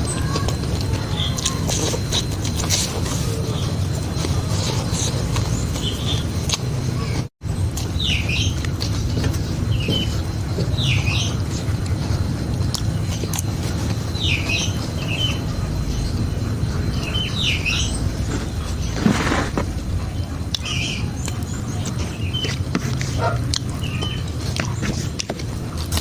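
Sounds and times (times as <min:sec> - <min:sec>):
bird chirps: 0:00.0 - 0:25.0
steady low rumble: 0:00.0 - 0:26.0.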